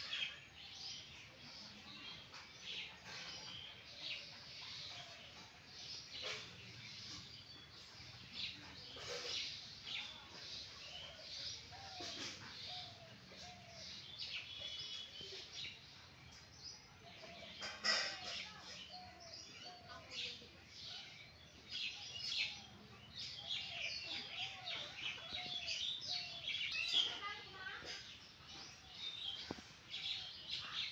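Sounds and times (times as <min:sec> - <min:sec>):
birds chirping and twittering: 0:00.0 - 0:30.9.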